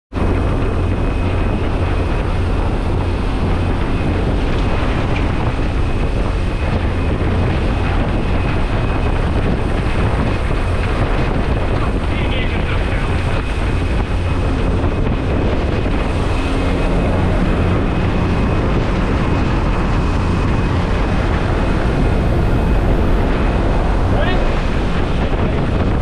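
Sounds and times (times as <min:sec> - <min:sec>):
propeller engine drone: 0:00.1 - 0:26.0.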